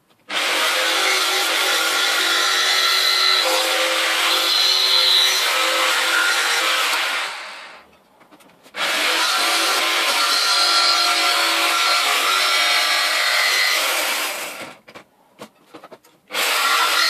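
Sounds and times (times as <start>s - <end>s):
jigsaw cutting metal: 0.3s - 7.9s, 8.8s - 14.8s, 16.3s - 17.0s.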